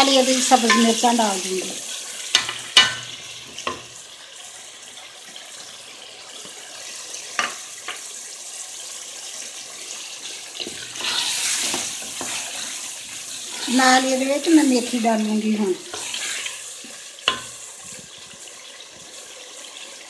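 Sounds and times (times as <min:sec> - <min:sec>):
masala sizzling in a pot: 0:00.0 - 0:20.0.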